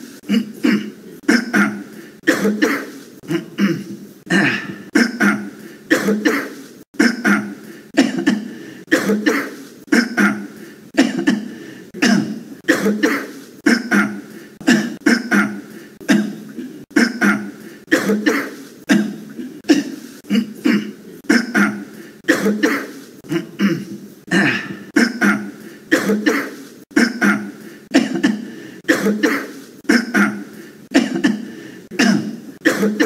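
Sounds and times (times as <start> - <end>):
person coughing: 0.0 - 33.0.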